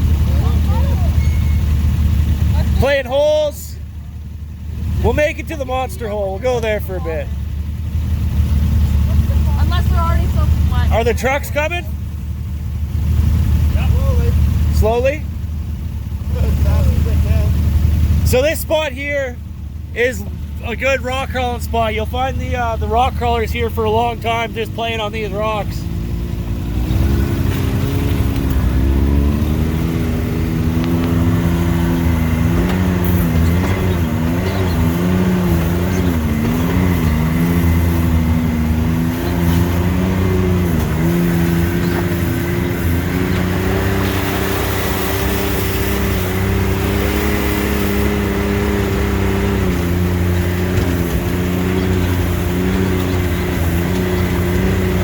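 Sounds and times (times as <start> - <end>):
off-road vehicle engine: 0.0 - 55.0.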